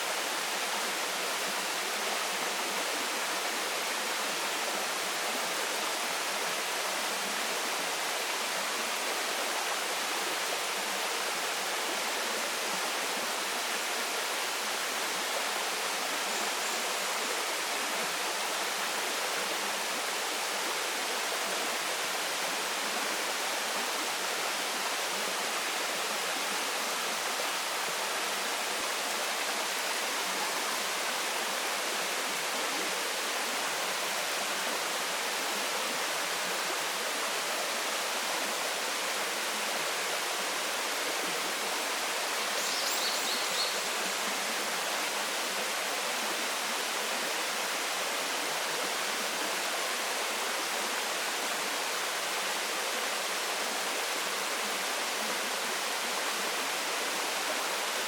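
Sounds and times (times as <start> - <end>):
waterfall rushing into stream: 0.0 - 58.0.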